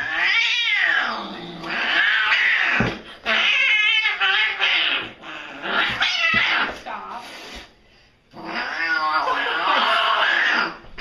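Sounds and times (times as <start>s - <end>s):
cat yowling: 0.0s - 6.8s, 8.4s - 10.8s.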